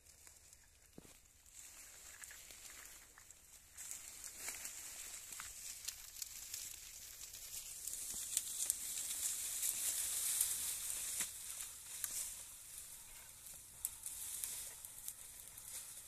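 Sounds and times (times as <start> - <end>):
brush fire hissing and crackling: 0.0 - 16.0.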